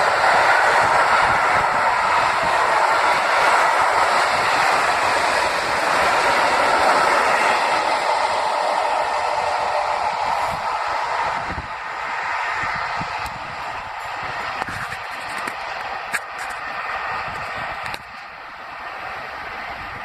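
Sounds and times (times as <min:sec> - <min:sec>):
train wheels on rail: 0:00.0 - 0:20.0.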